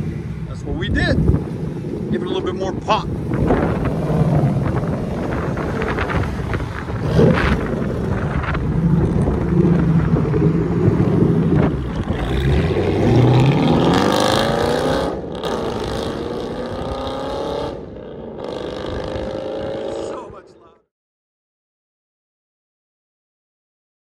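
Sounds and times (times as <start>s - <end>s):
car engine accelerating hard: 0.0s - 20.1s.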